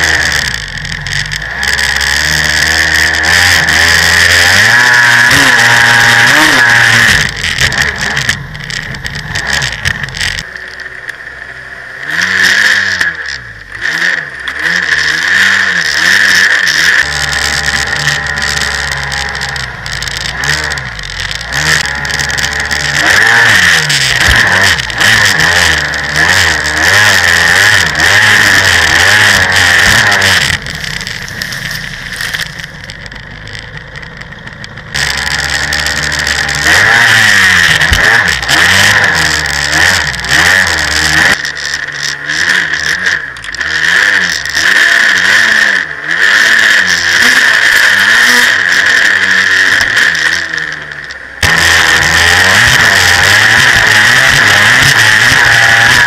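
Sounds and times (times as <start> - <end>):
jetski engine running hard: 0.0 - 56.0.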